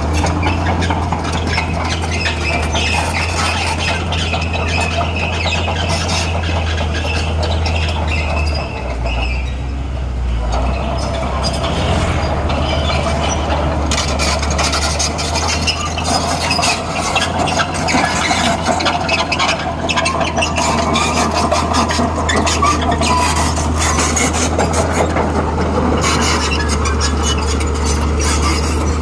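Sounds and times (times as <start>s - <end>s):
high-pitched squealing: 0.0s - 9.8s, 10.4s - 29.0s
bulldozer diesel engine under load: 0.0s - 29.0s.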